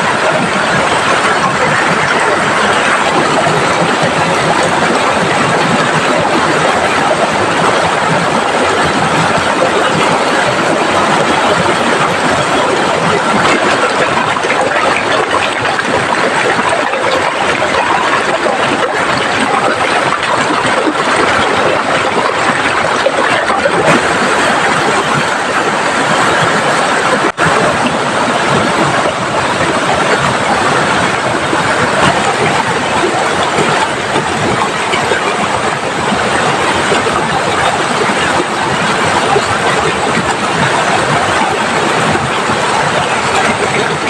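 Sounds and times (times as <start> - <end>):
fast-flowing river: 0.0 - 44.0
heavy rain downpour: 0.0 - 44.0.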